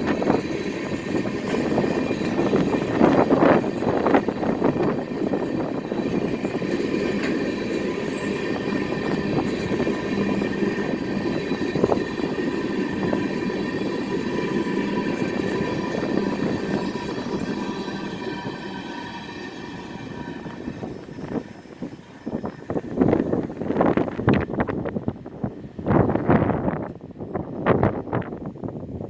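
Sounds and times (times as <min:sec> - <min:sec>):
rumble of train wheels on rail: 0:00.0 - 0:29.0.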